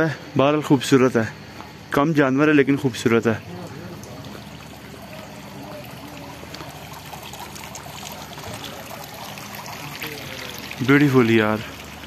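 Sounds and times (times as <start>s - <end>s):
fountain water trickling and splashing: 0.8s - 12.0s.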